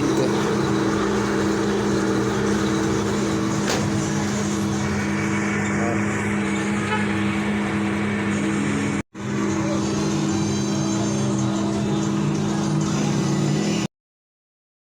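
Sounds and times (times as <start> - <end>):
washing machine motor hum: 0.0 - 13.8.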